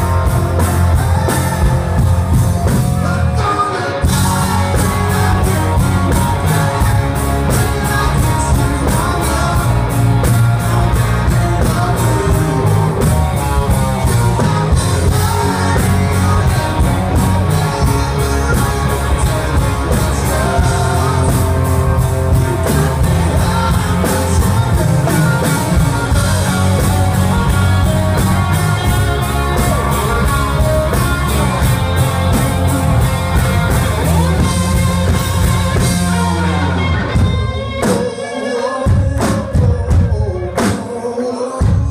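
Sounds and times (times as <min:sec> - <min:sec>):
live rock band: 0:00.0 - 0:41.9
man singing: 0:00.0 - 0:41.9.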